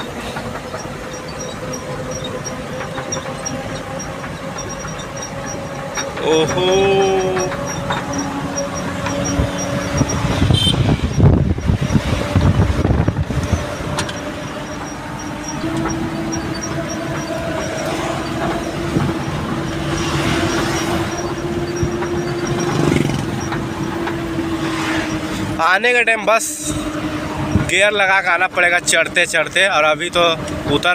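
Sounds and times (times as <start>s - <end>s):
truck engine hum from cab: 0.0s - 30.9s.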